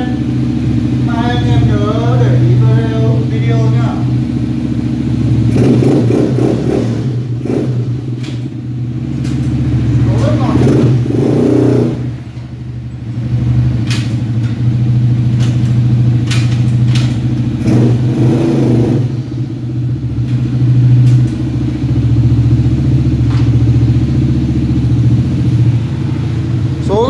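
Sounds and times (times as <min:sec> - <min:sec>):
quad engine idling: 0:00.0 - 0:27.0.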